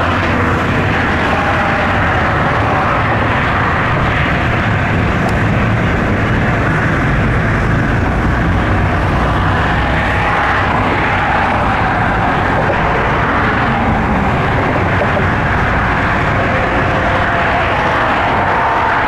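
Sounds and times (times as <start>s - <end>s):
motorboat engine drone: 0.0s - 19.0s
water rushing: 0.0s - 19.0s.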